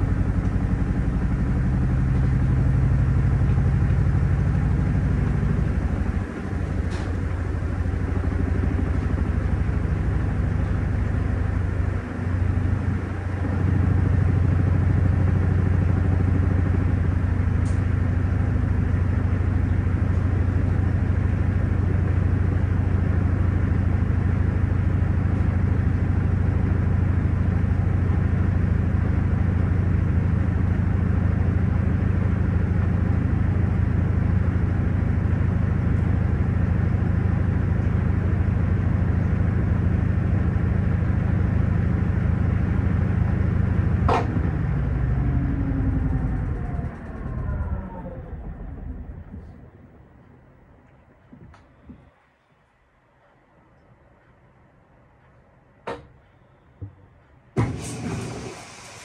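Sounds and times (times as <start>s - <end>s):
washing machine spinning: 0.0s - 51.2s, 57.6s - 59.0s.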